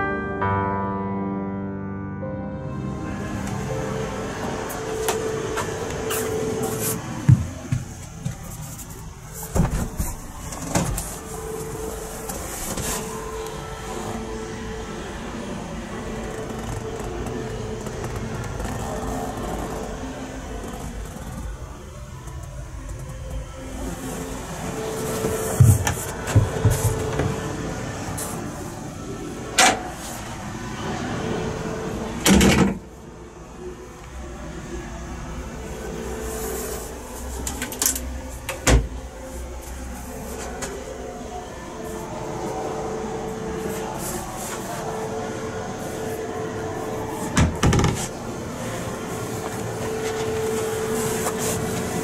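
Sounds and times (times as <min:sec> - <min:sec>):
steady hum: 0:02.2 - 0:52.0.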